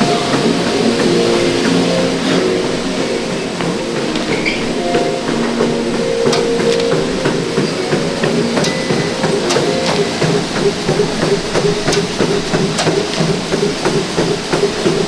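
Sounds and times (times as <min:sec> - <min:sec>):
cardio machines whirring: 0:00.0 - 0:15.0
gym equipment clanking: 0:00.0 - 0:15.0.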